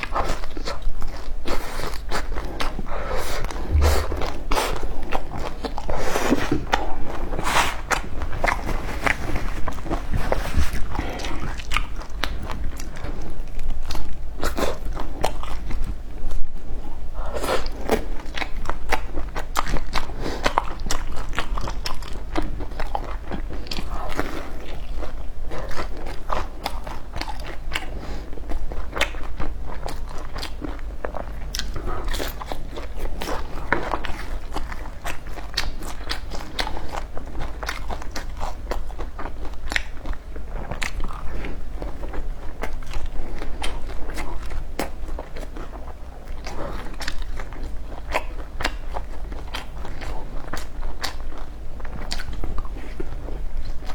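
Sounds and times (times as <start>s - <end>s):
person chewing crunchy food: 0.0s - 16.4s, 17.3s - 53.9s.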